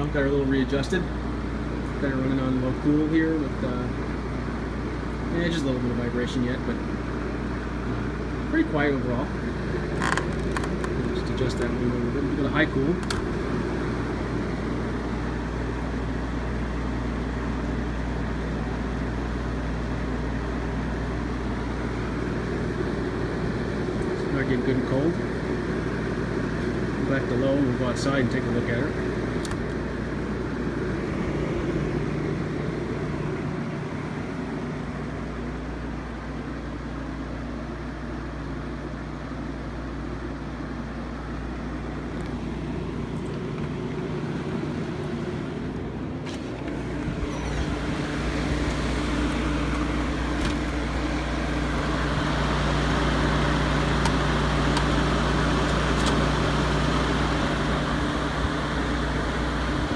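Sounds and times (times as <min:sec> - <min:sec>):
air conditioner running: 0:00.0 - 0:59.9.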